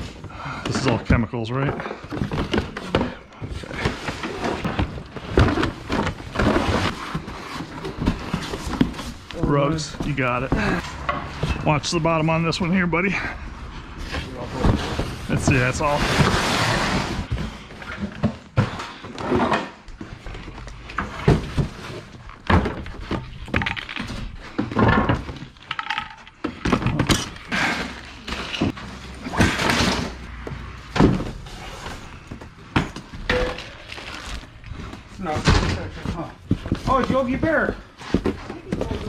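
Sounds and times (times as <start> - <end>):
boxes thudding and scraping: 0.0 - 25.6, 26.3 - 39.0.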